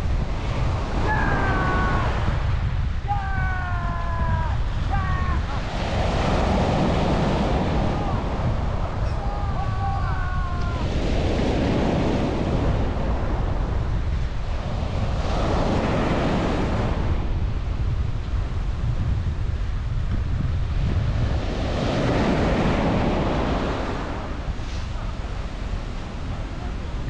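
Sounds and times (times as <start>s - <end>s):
surf breaking on beach: 0.0s - 27.0s
wind rumble on microphone: 0.0s - 27.0s.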